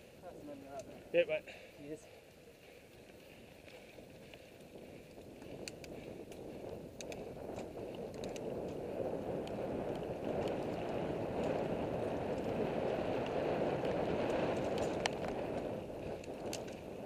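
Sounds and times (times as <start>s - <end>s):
bike tyres rolling on dirt: 0.0s - 17.0s
wind over microphone: 0.0s - 17.0s
bike clicks and rattles: 0.4s - 1.2s, 2.2s - 17.0s.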